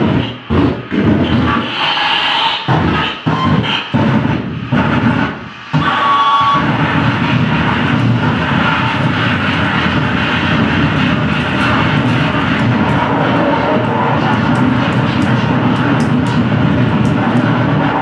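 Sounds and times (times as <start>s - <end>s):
distorted electronic noise: 0.0s - 18.0s.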